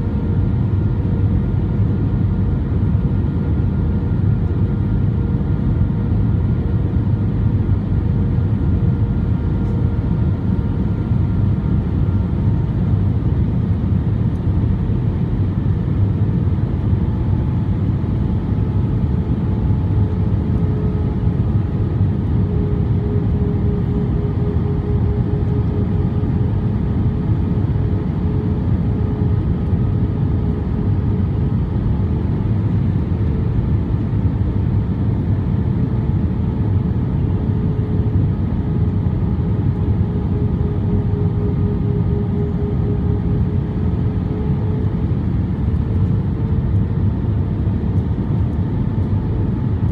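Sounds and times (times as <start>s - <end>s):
aircraft cabin engine roar: 0.0s - 49.9s
faint engine hum tones: 0.0s - 49.9s.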